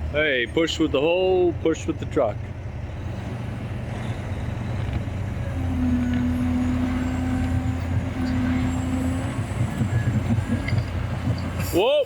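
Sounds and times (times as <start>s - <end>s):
heavy diesel machinery under load: 0.0s - 12.0s.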